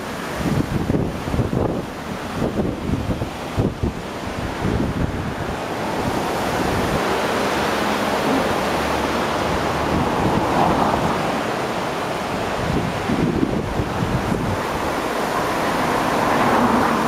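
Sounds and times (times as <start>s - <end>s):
river rushing white water: 0.0s - 17.0s
wind buffeting microphone: 0.0s - 17.0s.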